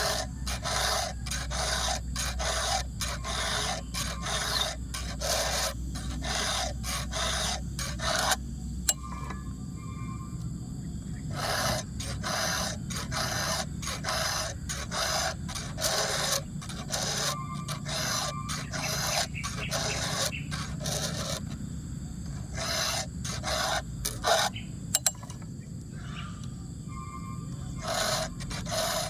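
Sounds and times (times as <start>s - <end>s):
file rasping on chain: 0.0s - 9.0s, 11.3s - 21.6s, 22.2s - 25.4s, 27.6s - 29.0s.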